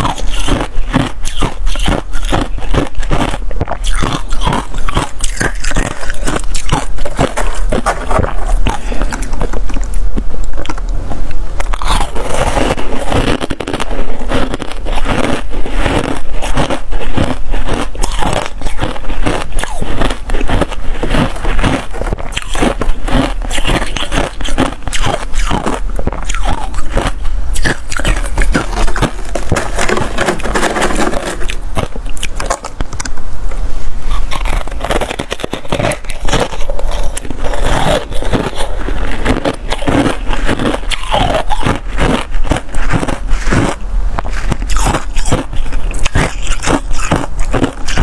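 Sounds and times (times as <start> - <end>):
frost crunching while chewed: 0.0 - 33.2, 34.0 - 48.0
hand scraping frost: 4.0 - 10.4, 12.0 - 32.8, 34.2 - 48.0.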